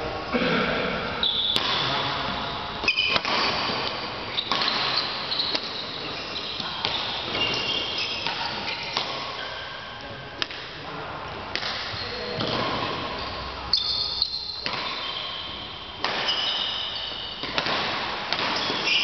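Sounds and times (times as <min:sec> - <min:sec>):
rackets striking shuttlecock: 0:01.2 - 0:09.6, 0:10.4 - 0:10.8, 0:11.5 - 0:19.0
shoes squeaking on court floor: 0:01.2 - 0:10.0, 0:11.8 - 0:19.0.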